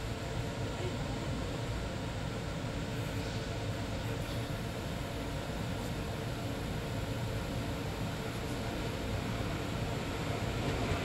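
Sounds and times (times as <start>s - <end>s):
electric train running past: 1.3s - 11.0s.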